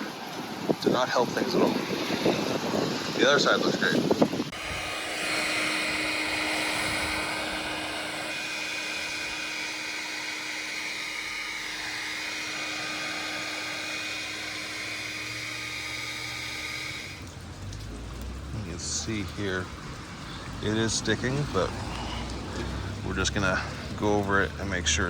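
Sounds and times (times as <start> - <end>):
blow dryer running: 0.0 - 25.0.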